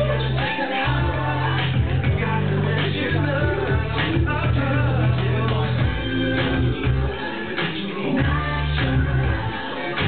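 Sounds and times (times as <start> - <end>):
dance music with singing: 0.0 - 10.0.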